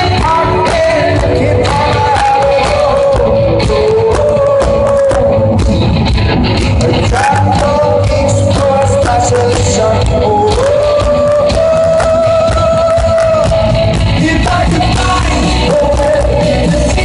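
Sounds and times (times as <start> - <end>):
person singing: 0.0 - 5.8, 6.6 - 17.0
live rock band playing: 0.0 - 17.0.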